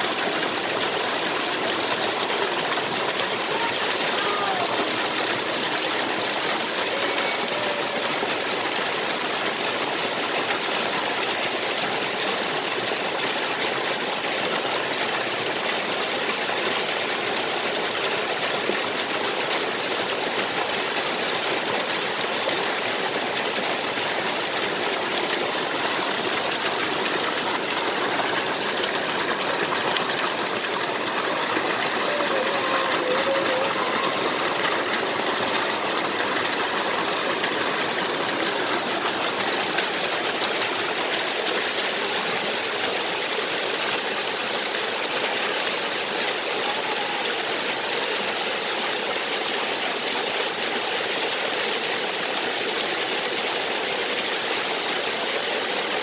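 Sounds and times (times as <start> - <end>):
waterfall and stream flowing: 0.0 - 56.0.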